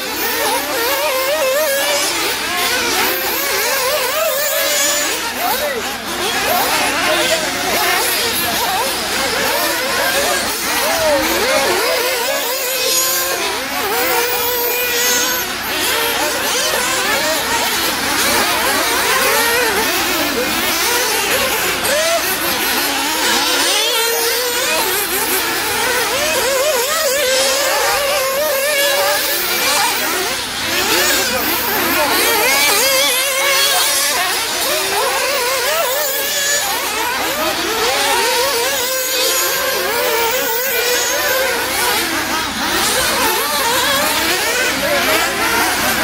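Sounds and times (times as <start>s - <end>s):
rc car engines whining: 0.0s - 46.0s.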